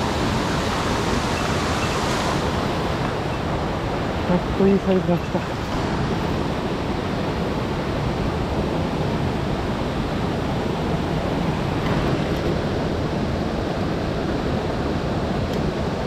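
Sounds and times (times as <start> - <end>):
mountain stream flowing: 0.0 - 16.0.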